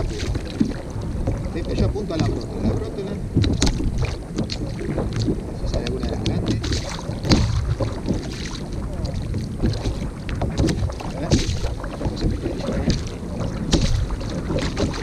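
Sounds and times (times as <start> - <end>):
small knocks: 0.0 - 15.0
water lapping against hull: 0.0 - 15.0
wind buffeting microphone: 0.0 - 15.0.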